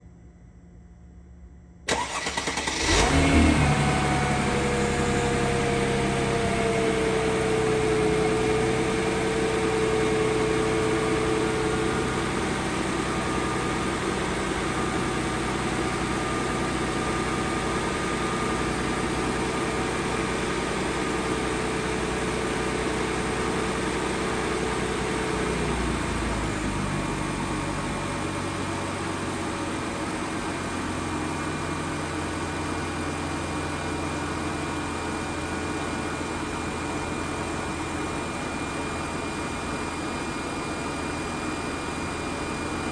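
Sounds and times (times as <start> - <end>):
car engine cranking and idling: 1.9 - 42.9.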